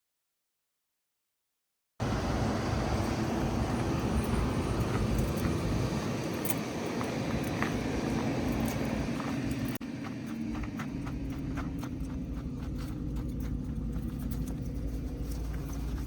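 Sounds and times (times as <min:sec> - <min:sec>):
bus engine idling: 0:02.0 - 0:16.0.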